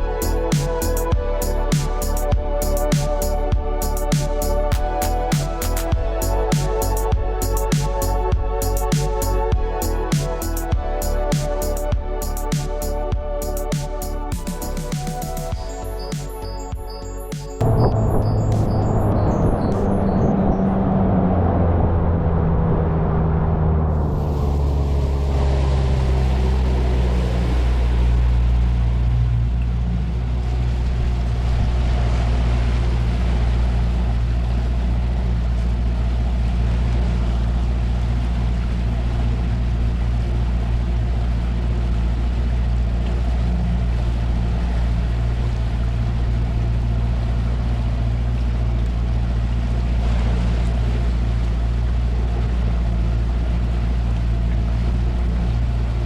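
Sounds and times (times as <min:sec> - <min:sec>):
outboard motor running: 0:00.0 - 0:19.1, 0:23.8 - 0:56.0
water rushing along hull: 0:00.0 - 0:56.0.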